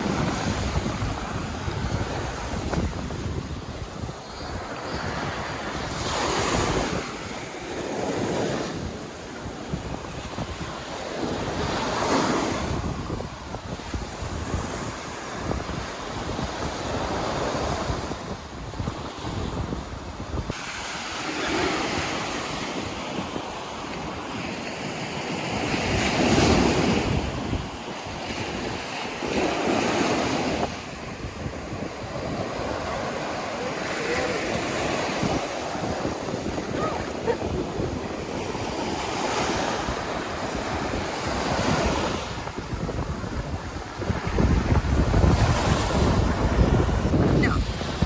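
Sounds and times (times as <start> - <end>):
ocean surf breaking: 0.0 - 48.0
wind buffeting microphone: 0.0 - 48.0.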